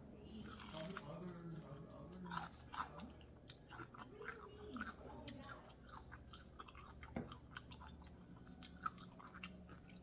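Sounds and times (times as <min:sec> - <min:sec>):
person chewing crispy chicken: 0:00.3 - 0:10.0.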